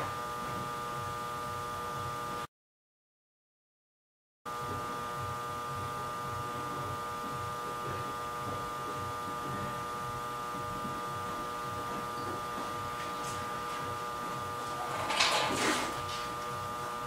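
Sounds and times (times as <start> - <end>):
electrical hum and buzz: 0.0 - 2.5, 4.5 - 17.0.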